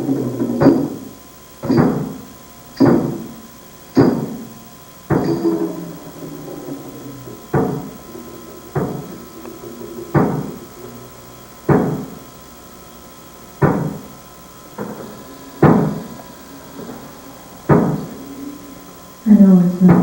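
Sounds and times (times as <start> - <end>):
deep drum beats: 0.0 - 12.8, 13.4 - 19.0.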